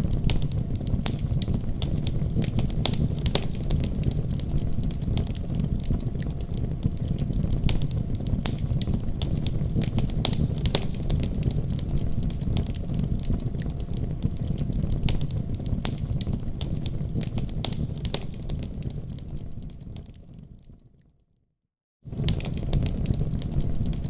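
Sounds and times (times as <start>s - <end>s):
wood fire crackling and popping: 0.0s - 21.0s, 22.1s - 24.0s.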